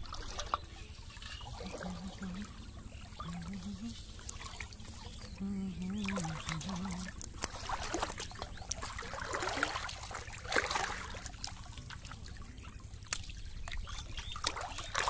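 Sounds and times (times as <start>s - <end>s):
water trickling and sloshing: 0.0s - 15.0s.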